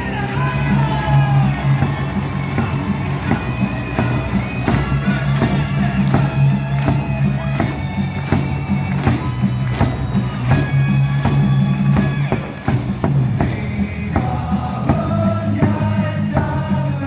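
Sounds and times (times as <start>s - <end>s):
stadium music over loudspeakers: 0.0s - 17.0s.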